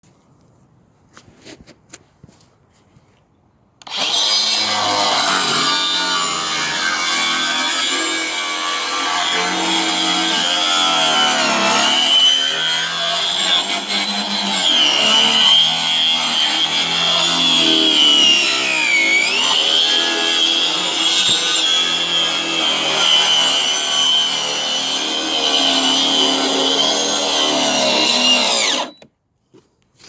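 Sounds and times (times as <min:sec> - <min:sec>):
angle grinder cutting wood: 0:03.8 - 0:29.1.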